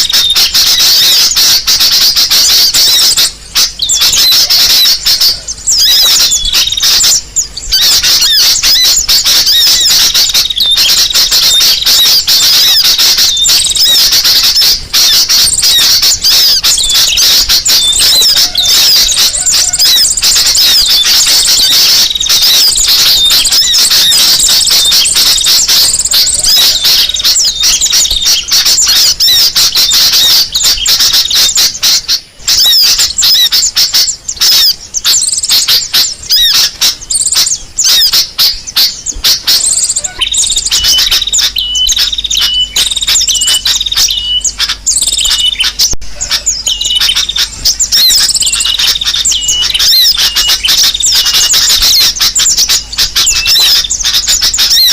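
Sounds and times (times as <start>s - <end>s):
repeated short bird notes: 0.0s - 54.9s
sunbird chirps and trills: 0.0s - 54.9s.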